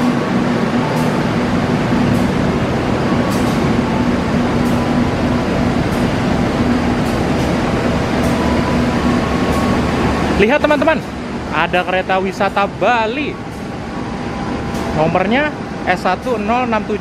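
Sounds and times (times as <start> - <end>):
train coaches rolling past: 0.0 - 17.0.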